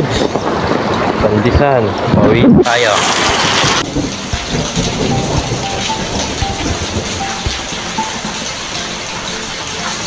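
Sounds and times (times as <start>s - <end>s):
heavy rain on pavement: 0.0s - 10.0s.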